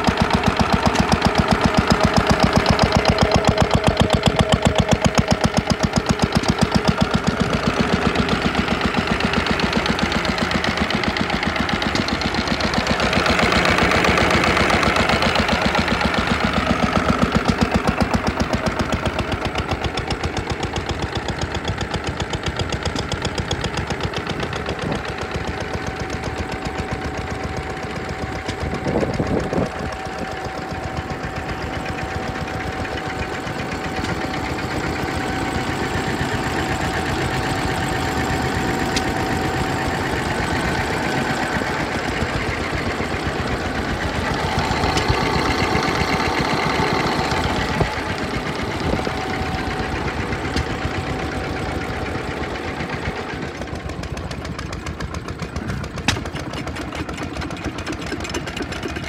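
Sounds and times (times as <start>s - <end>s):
stationary engine running: 0.0s - 59.0s.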